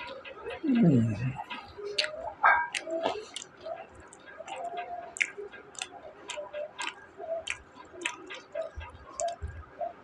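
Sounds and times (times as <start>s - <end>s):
person chewing crunchy food: 0.8s - 9.6s.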